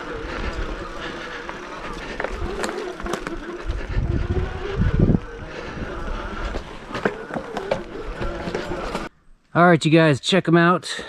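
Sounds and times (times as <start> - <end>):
electric motor whine: 0.0 - 9.1
wind rumble on microphone: 0.0 - 9.1.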